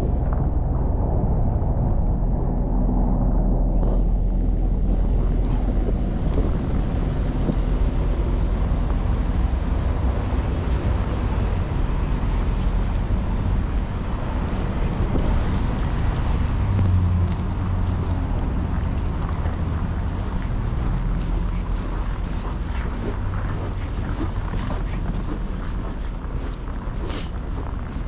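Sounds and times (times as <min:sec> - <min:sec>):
low engine hum: 0:00.0 - 0:28.0
street traffic rumble: 0:00.0 - 0:28.0
wind buffeting microphone: 0:00.0 - 0:28.0.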